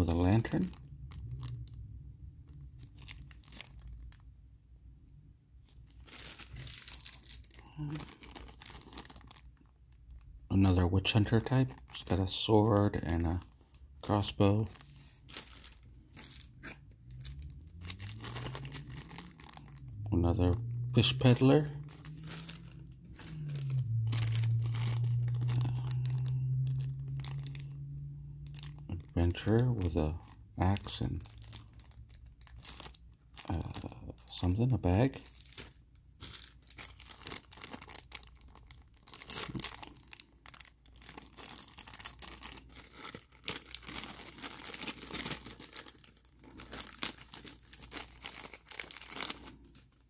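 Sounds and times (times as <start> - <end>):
plastic bag crinkling: 0.0 - 4.3, 5.6 - 50.0.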